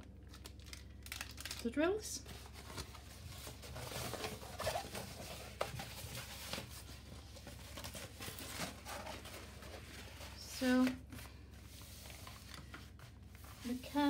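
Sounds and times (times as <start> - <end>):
canvas and paper rustling: 1.4 - 14.0.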